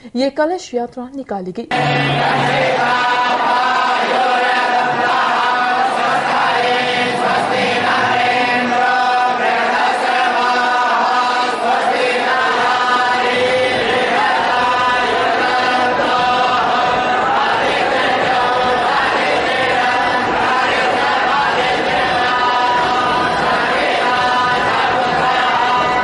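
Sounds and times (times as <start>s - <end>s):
group of voices chanting: 1.7s - 26.0s.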